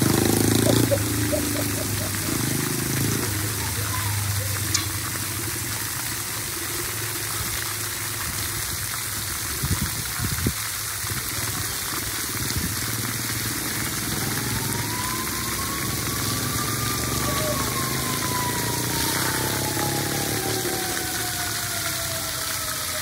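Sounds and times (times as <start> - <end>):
water jets splattering on concrete: 0.0 - 23.0.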